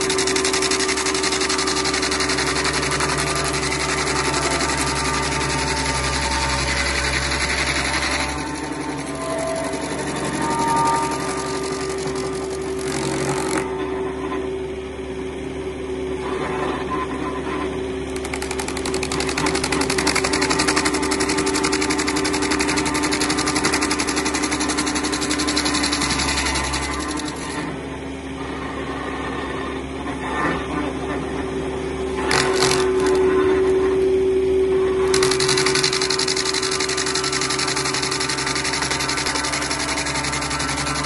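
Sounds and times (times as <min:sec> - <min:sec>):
machinery engine droning: 0:00.0 - 0:41.0.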